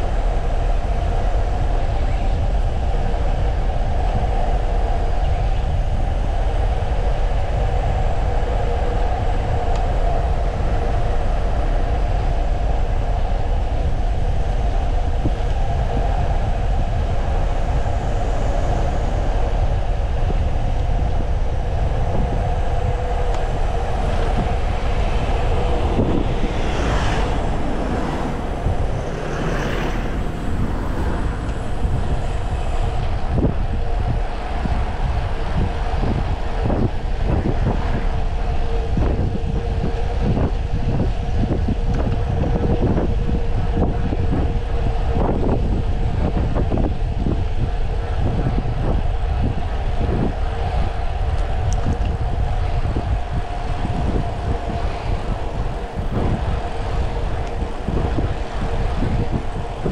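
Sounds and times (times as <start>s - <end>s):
steady hum: 0.0s - 59.9s
wind rumble on microphone: 0.0s - 59.9s.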